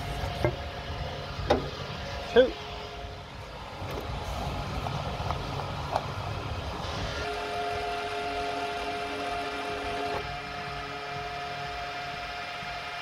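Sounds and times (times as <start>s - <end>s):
fuel pump humming: 0.0s - 13.0s.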